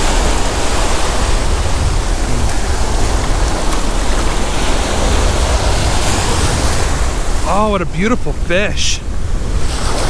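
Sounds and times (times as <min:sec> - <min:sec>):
surf washing over sand: 0:00.0 - 0:10.0.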